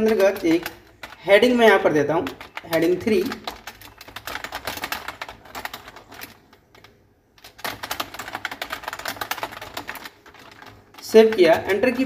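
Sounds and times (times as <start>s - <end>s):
typing on keyboard: 0.0s - 12.0s.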